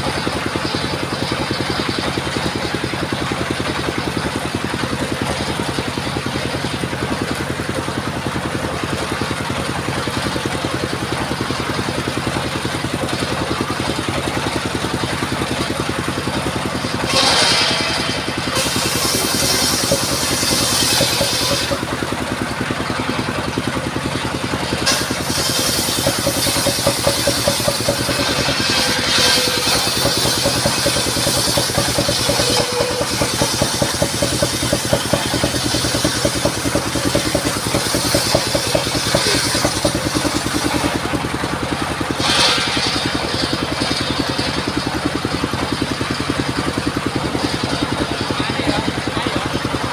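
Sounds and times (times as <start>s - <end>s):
sawmill engine running: 0.0s - 49.9s
saw blade whining through log: 9.3s - 49.6s.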